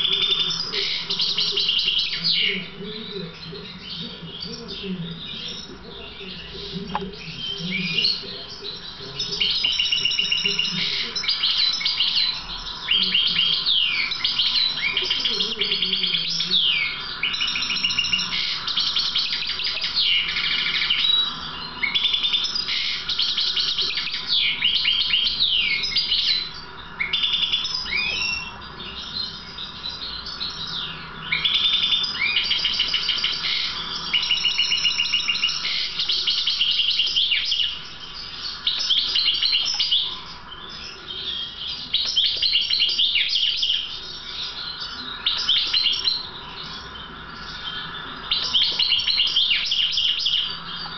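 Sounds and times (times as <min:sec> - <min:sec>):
goldfinch twittering song: 0:00.0 - 0:50.9.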